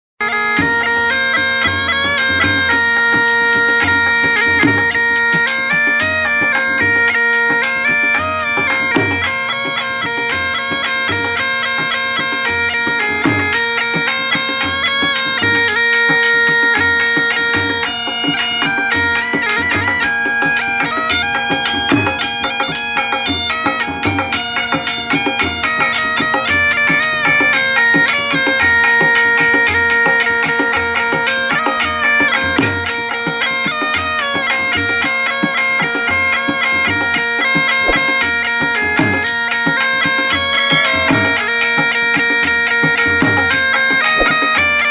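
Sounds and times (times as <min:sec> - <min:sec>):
snake charmer reed pipe melody: 0:00.2 - 0:44.9
drum beats: 0:00.6 - 0:44.9.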